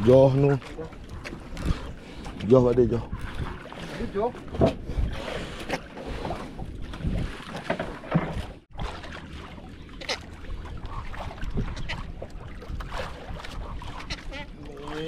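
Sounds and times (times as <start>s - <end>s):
water: 0.0s - 15.0s
wind: 0.0s - 15.0s.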